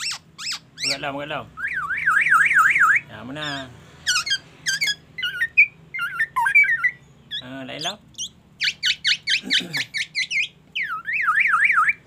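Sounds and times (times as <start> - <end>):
bird singing mimicking song: 0.0 - 12.0.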